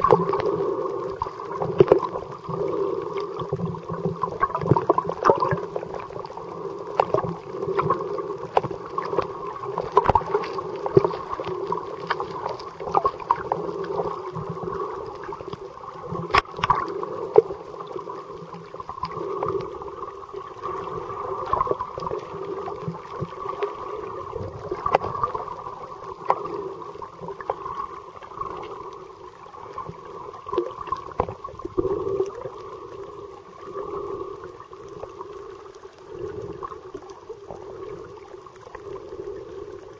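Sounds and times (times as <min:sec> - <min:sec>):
underwater rumble: 0:00.0 - 0:39.9.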